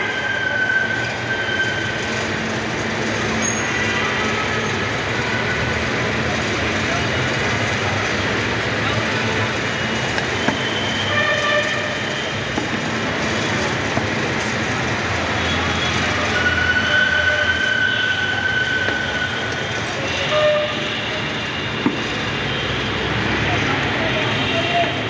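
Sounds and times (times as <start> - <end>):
busy street rumble: 0.0 - 25.0.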